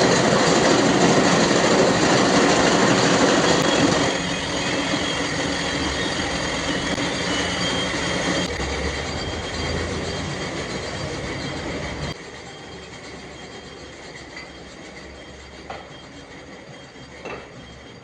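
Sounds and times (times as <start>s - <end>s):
workshop machine running: 0.0s - 18.0s.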